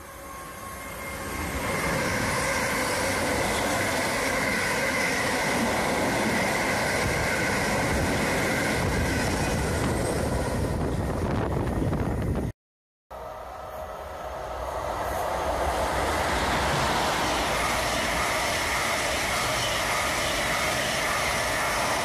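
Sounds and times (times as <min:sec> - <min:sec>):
train rushing past: 0:00.0 - 0:12.5, 0:13.2 - 0:22.0.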